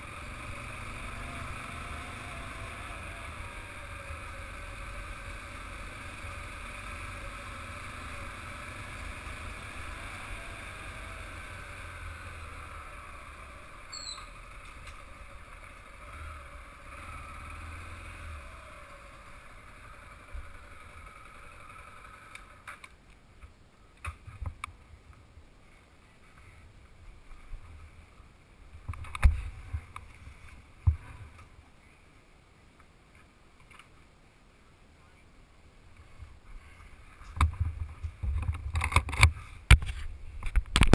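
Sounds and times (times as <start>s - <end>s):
motorcycle engine at low speed: 0.0s - 32.0s, 35.9s - 40.9s.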